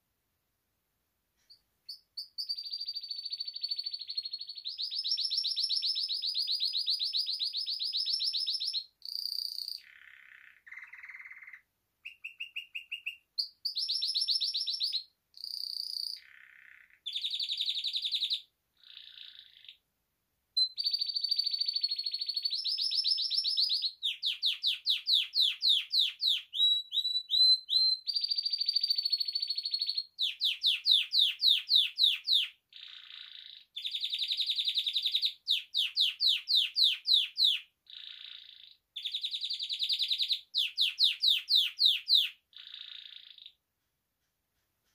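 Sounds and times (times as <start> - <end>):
canary singing trills: 1.5 - 19.8, 20.6 - 43.6.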